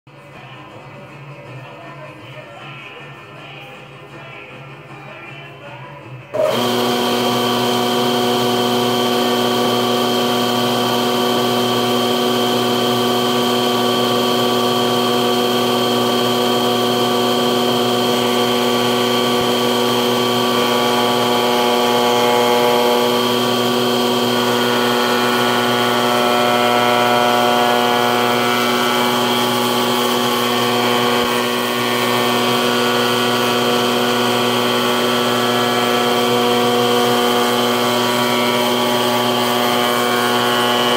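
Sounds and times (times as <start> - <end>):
molder machine drone: 6.4 - 40.9.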